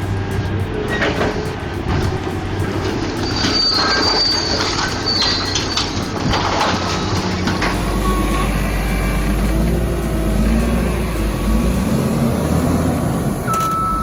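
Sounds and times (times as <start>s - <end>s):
metal screeching and squealing: 0.2s - 13.5s
excavator shear crunching metal: 0.7s - 13.8s.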